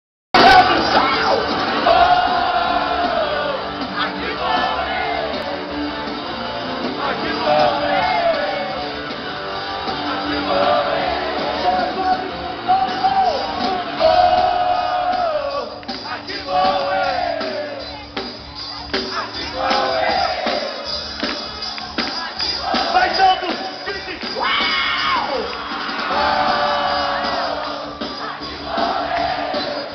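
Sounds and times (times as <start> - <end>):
crowd singing and shouting: 0.4 - 29.9
loud music: 0.4 - 29.9.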